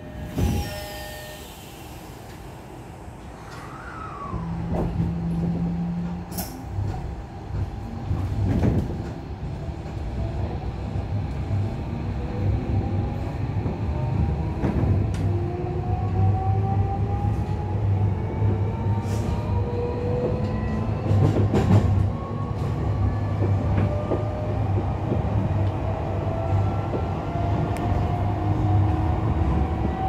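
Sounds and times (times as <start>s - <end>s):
train running noise: 0.0s - 30.0s.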